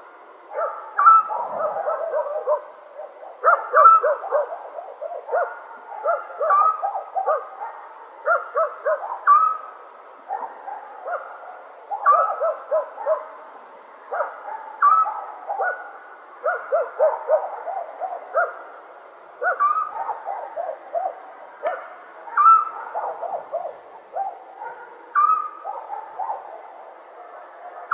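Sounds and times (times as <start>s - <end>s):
faint steady hiss: 0.0s - 27.9s.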